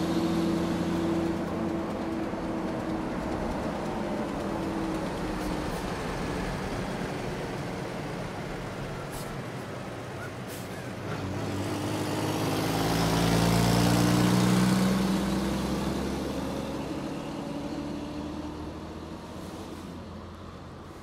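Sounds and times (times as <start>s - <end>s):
truck diesel engine driving past: 0.0s - 21.0s.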